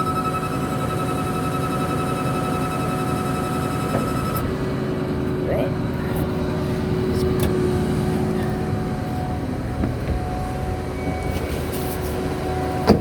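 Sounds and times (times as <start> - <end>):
diesel engine idling: 0.0 - 13.0
hydraulic pump whine: 0.0 - 13.0.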